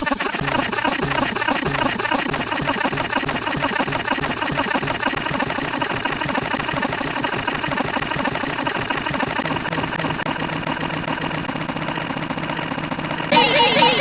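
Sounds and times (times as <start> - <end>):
steady rapid rattling: 0.0 - 14.0.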